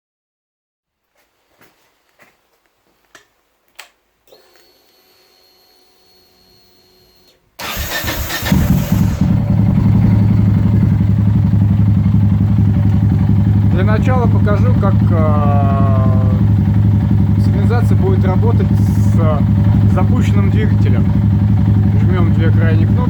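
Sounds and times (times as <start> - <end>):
motorcycle engine starting and idling: 4.3 - 23.0.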